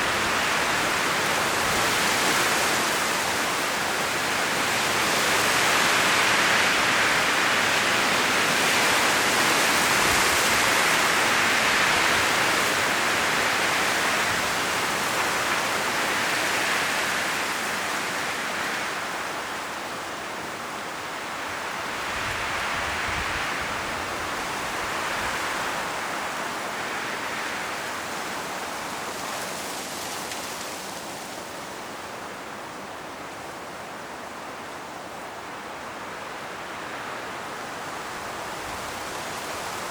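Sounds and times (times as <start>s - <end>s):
wind rustling leaves: 0.0s - 39.9s.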